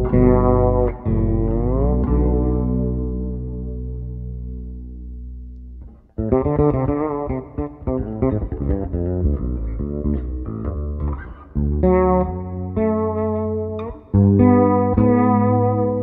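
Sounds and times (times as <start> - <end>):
fretless electric bass notes: 0.0 - 16.0.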